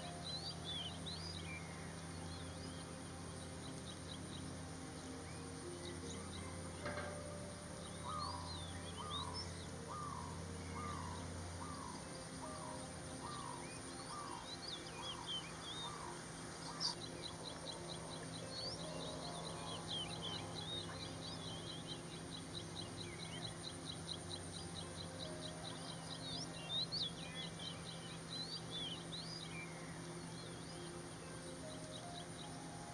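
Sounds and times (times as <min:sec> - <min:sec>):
bird chirps: 0:05.8 - 0:32.9.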